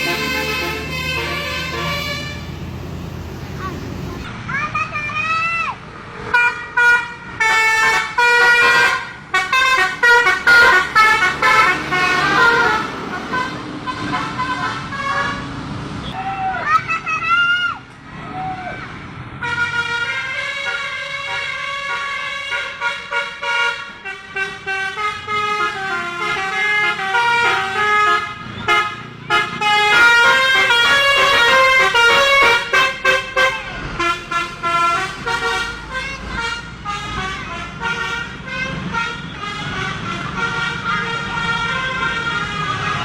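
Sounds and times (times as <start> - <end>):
bus musical horn playing tune: 0.0 - 2.8, 6.3 - 15.6, 19.4 - 43.0.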